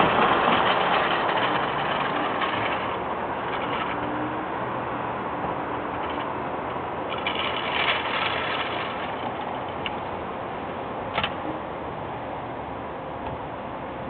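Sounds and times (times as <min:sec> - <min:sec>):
road traffic hiss: 0:00.0 - 0:14.0.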